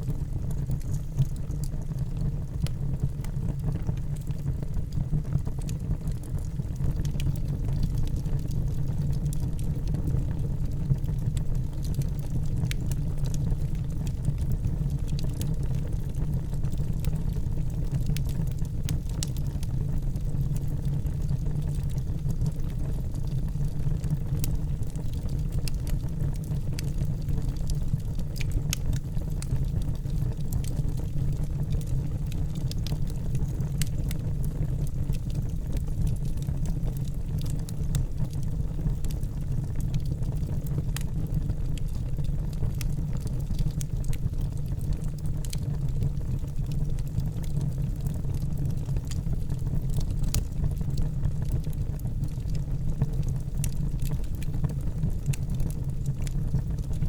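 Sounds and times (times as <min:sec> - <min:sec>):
burning wood crackling and popping: 0:00.0 - 0:57.0
low rumble of flames: 0:00.0 - 0:57.0.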